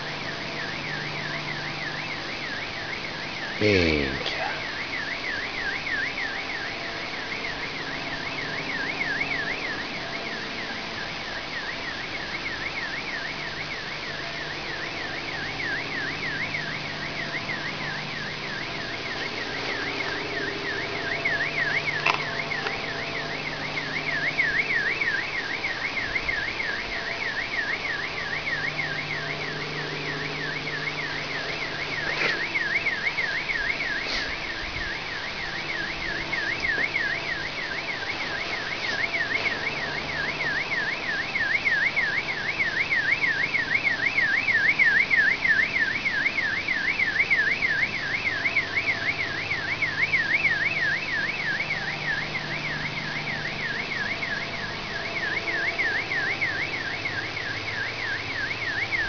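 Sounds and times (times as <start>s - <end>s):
car alarm siren warbling: 0.0s - 59.0s.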